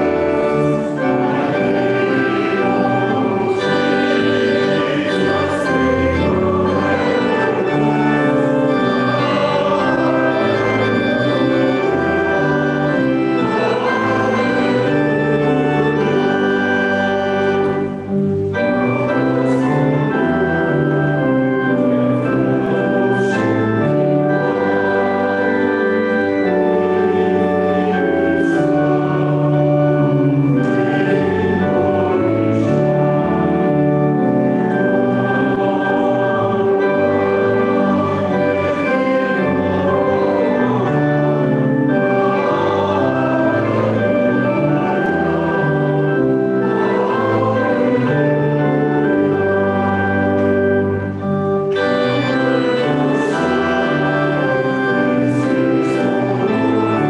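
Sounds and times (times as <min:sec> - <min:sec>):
choir singing: 0:00.0 - 0:57.0
church organ chords: 0:00.0 - 0:57.0.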